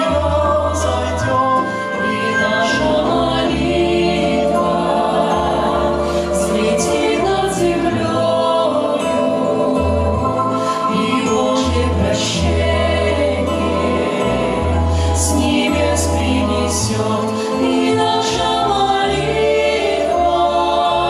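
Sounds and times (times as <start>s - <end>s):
mixed choir singing a hymn: 0.0s - 21.0s.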